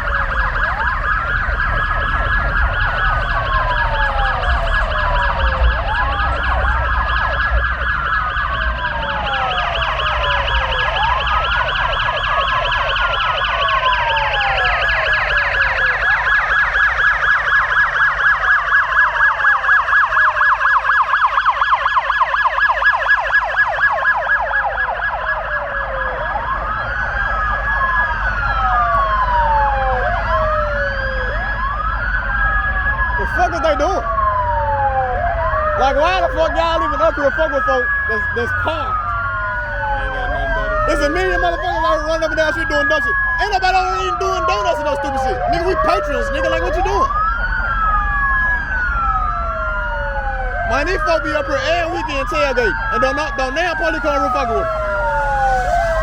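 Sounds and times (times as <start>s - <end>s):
police sirens wailing: 0.0s - 56.0s.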